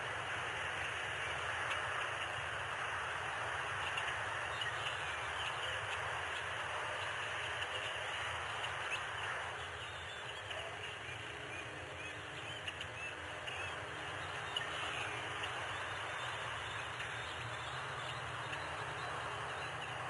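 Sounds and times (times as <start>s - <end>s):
steady background hiss: 0.0s - 20.0s
faint bird chirps: 3.5s - 20.0s.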